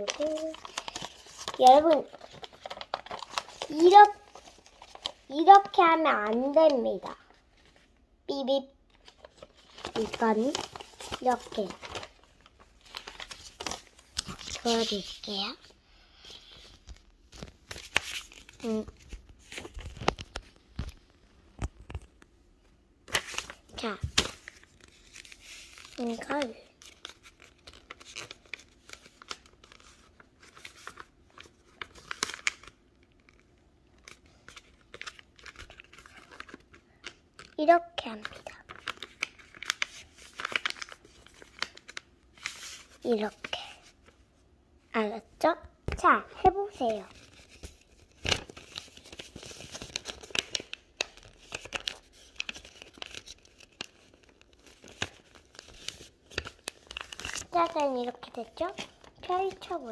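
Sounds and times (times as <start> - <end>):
paper rustling and crinkling: 0.0 - 7.9, 8.9 - 22.2, 23.1 - 44.2, 45.9 - 59.9.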